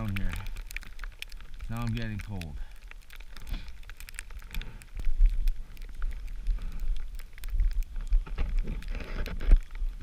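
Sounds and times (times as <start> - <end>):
small crackling ticks: 0.0 - 10.0.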